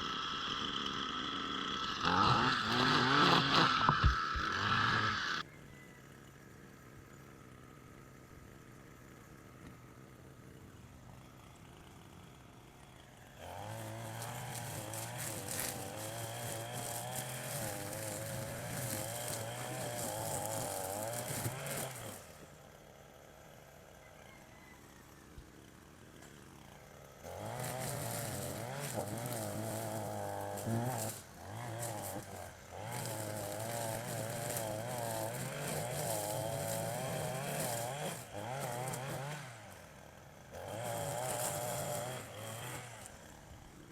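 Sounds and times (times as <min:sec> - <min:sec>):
two-stroke engine idling and revving: 0:00.0 - 0:43.9.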